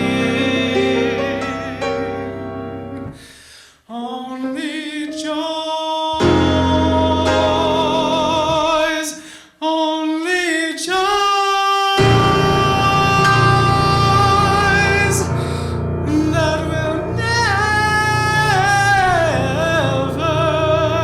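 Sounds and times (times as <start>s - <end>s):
man singing with vibrato: 0.0s - 2.3s, 3.2s - 21.0s
piano accompaniment: 0.0s - 3.3s, 4.4s - 9.1s, 12.0s - 21.0s.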